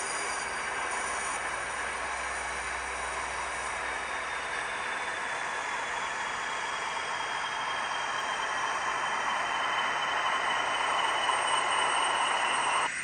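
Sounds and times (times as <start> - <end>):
model locomotive whine: 0.0 - 13.0.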